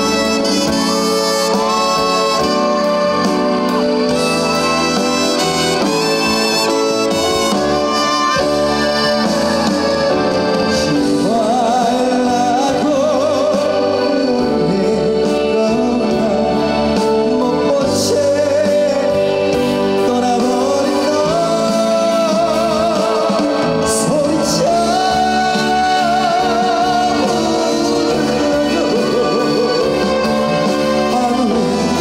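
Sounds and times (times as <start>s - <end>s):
amplified band accompaniment: 0.0s - 32.0s
male singer with vibrato: 0.0s - 32.0s.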